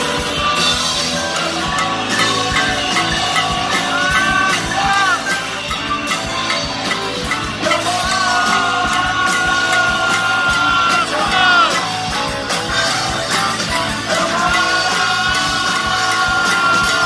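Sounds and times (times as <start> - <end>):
live rock band playing: 0.0 - 17.0
people singing: 0.0 - 17.0.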